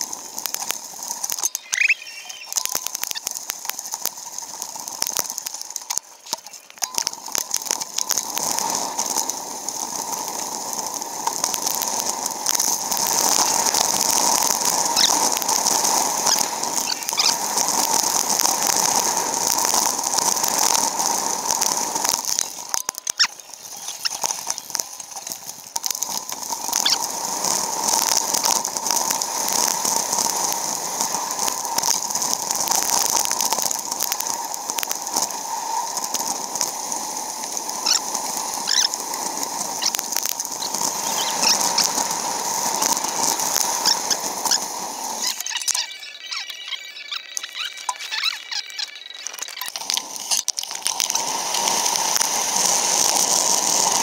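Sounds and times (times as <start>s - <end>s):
small clicks and chatter: 0.0s - 54.0s
wind and road noise: 0.0s - 54.0s.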